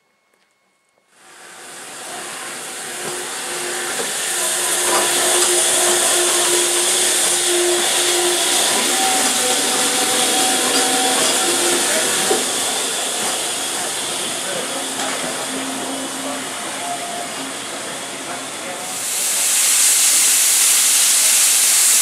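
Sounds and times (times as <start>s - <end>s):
steam train hiss and rumble: 1.2s - 22.0s.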